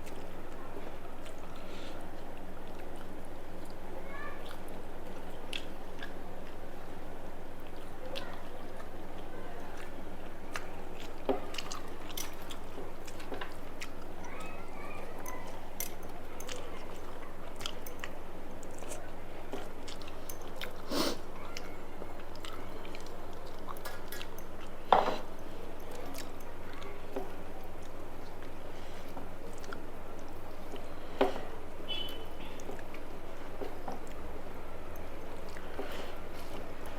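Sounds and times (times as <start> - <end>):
steady background hum: 0.0 - 36.9
wet chewing: 4.4 - 36.9.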